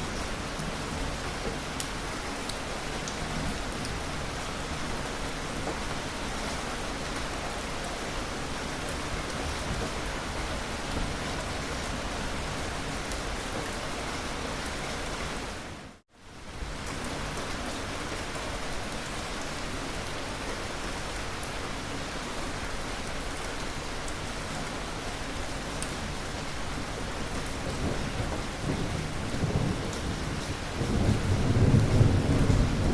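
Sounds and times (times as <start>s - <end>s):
dense rainfall hiss: 0.0s - 32.9s.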